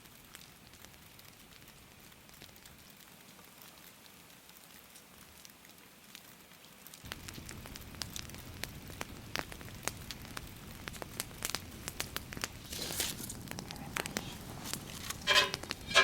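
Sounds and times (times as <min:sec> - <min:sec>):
campfire crackling and popping: 0:00.0 - 0:16.0
light rain hissing: 0:00.0 - 0:16.0.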